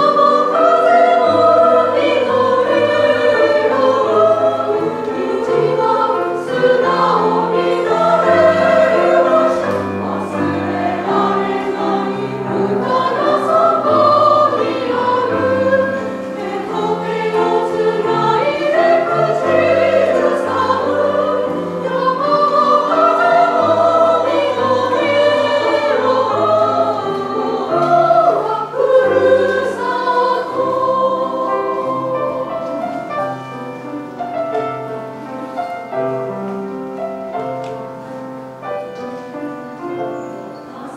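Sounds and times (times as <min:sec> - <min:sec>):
women's choir singing: 0:00.0 - 0:36.4, 0:37.0 - 0:40.9
piano accompaniment: 0:00.0 - 0:40.9.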